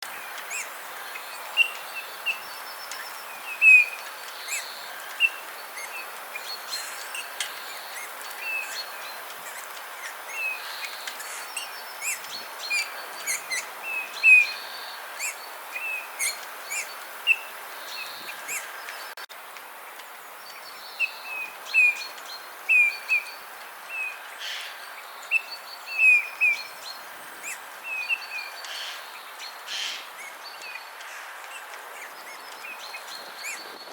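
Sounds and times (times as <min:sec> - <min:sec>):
small birds chirping: 0:00.0 - 0:19.2, 0:19.9 - 0:33.9
steady background hiss: 0:00.1 - 0:33.9.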